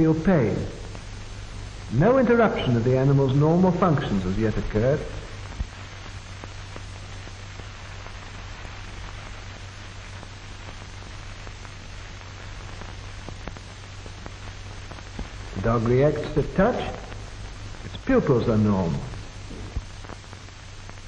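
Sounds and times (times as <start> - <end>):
faint crackles: 0.0 - 21.0
film soundtrack hiss: 0.0 - 21.0
low hum: 0.0 - 21.0.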